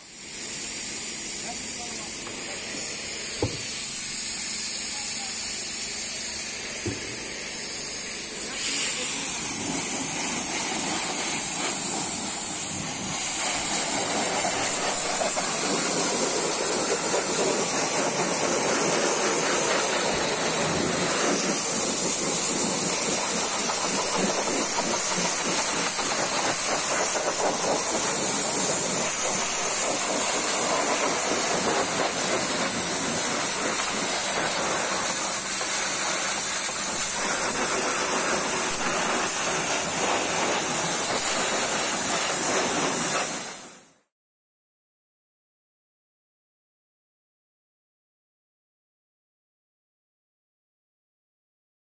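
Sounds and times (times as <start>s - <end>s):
pressure washer spray hiss: 0.0s - 44.0s.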